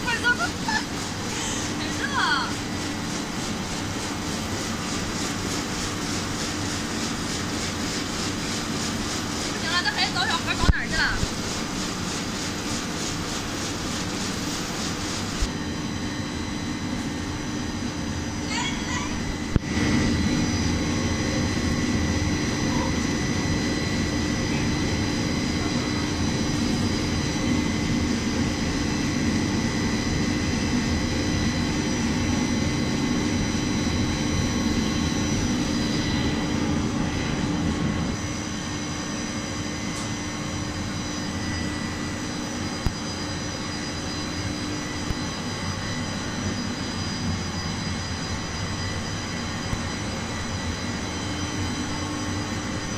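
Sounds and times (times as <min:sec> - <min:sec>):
factory machinery drone: 0:00.0 - 0:52.9
high steady machine whines: 0:00.0 - 0:52.9.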